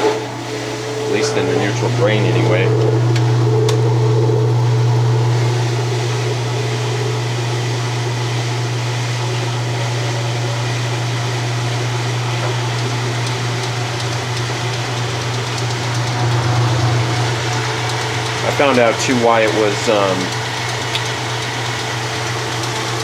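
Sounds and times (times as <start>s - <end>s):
washing machine motor and drain pump: 0.0s - 23.0s.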